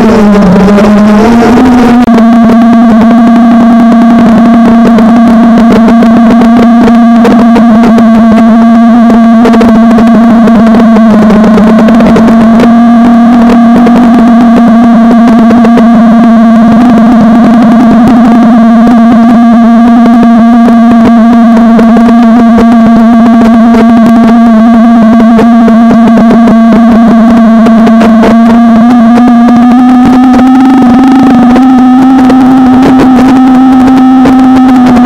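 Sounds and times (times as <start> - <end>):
quadcopter motors buzzing whine: 0.0 - 35.0.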